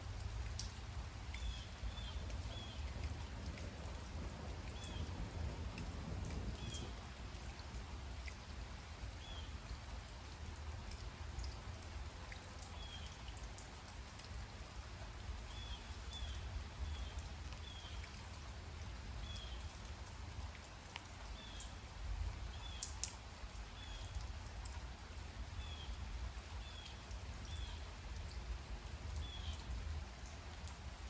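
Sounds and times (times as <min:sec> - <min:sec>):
light rain falling: 0:00.0 - 0:31.0.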